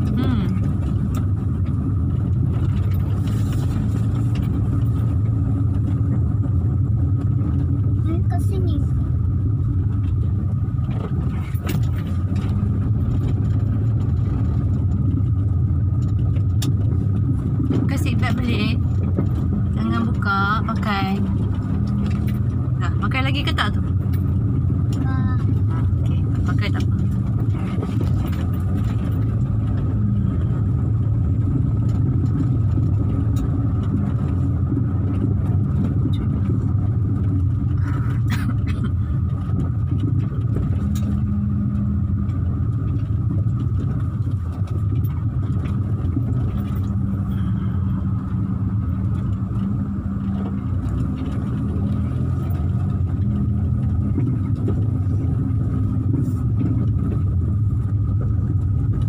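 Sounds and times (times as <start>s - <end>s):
car engine and tyre rumble: 0.0s - 59.0s
thin steady whine: 0.0s - 59.0s.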